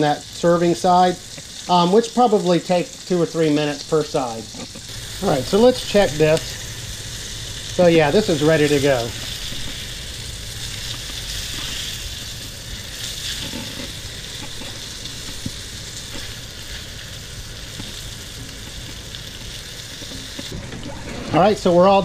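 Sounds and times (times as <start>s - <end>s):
fish sizzling in a skillet: 0.0s - 20.6s.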